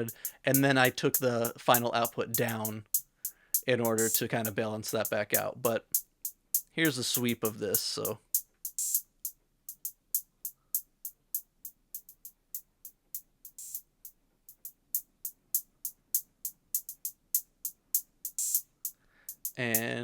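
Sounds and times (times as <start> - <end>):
closed hi-hat ticks: 0.0 - 20.0
open hi-hat: 0.0 - 20.0.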